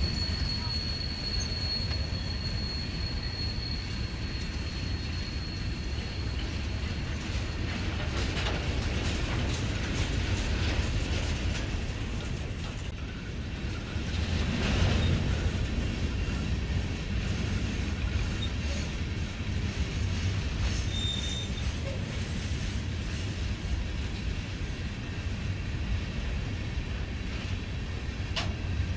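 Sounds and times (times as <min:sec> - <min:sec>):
freight train wheels rumbling on rail: 0:00.0 - 0:28.9.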